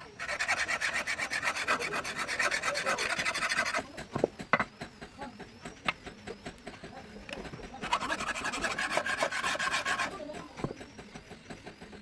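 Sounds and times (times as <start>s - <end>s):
file rasping on knife blade: 0.0s - 4.7s, 5.9s - 12.0s
scattered knocks and clicks: 0.1s - 12.0s.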